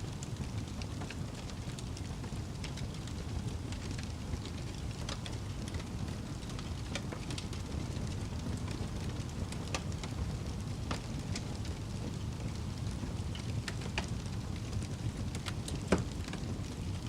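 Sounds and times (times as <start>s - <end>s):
campfire roar: 0.0s - 17.0s
wood crackling and popping: 0.0s - 17.0s.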